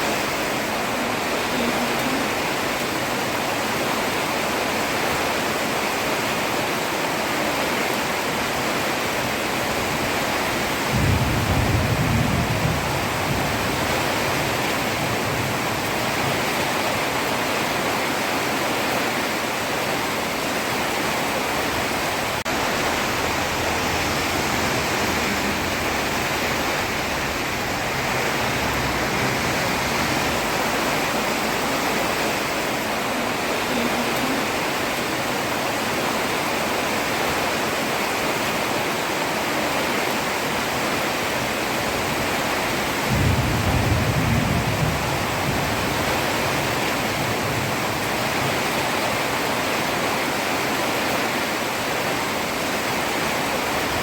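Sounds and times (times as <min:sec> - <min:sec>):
heavy rain on a road: 0:00.0 - 0:54.0.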